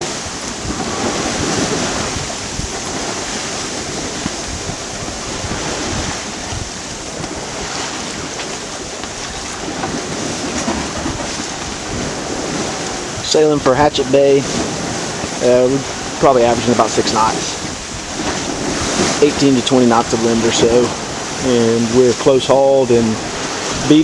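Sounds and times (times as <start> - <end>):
water slapping a hull: 0.0 - 24.0
wind buffeting microphone: 0.0 - 24.0.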